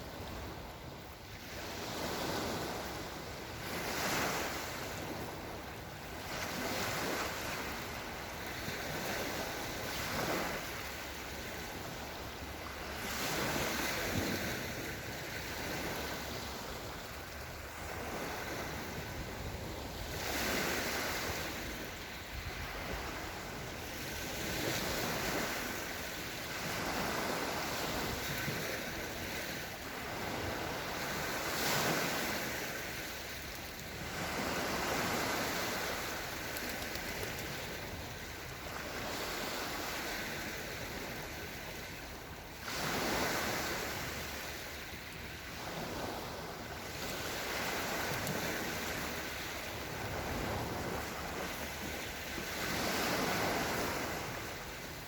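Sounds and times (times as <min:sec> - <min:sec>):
small waves washing onto shore: 0:00.0 - 0:55.0.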